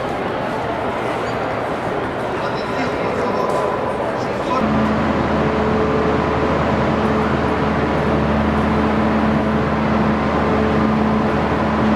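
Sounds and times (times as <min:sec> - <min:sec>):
train machinery humming: 0:00.0 - 0:11.9.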